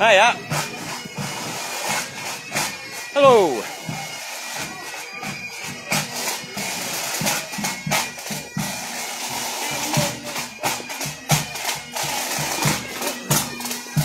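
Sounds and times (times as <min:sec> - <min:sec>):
bagpipes droning tune: 0:00.0 - 0:14.0.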